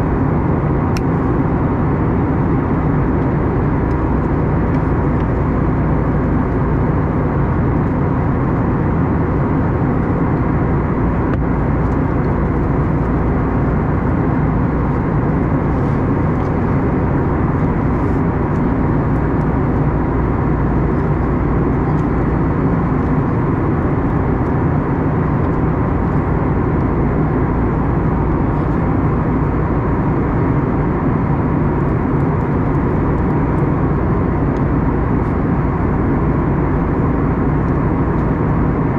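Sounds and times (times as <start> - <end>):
airplane cabin engine rush: 0.0 - 38.9.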